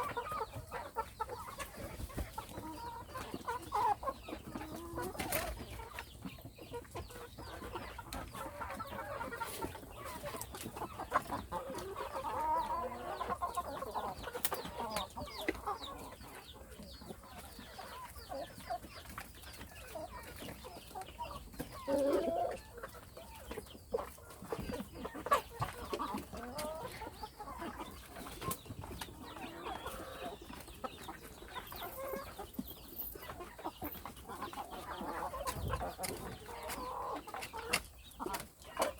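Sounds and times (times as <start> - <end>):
hens clucking: 0.0 - 38.9.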